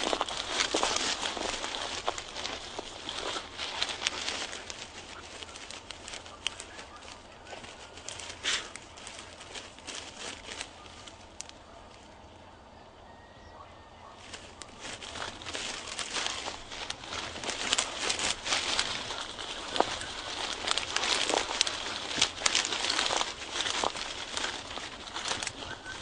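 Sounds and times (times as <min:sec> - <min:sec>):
footsteps through dry grass: 0:00.0 - 0:12.3, 0:14.2 - 0:26.0.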